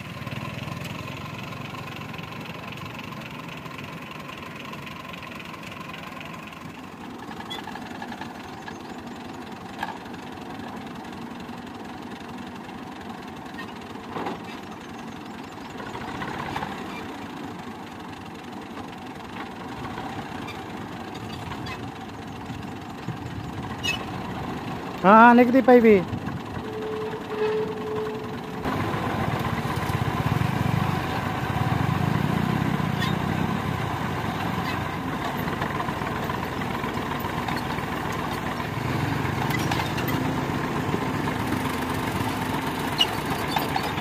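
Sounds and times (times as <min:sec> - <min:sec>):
tractor diesel engine idling: 0:00.0 - 0:44.0.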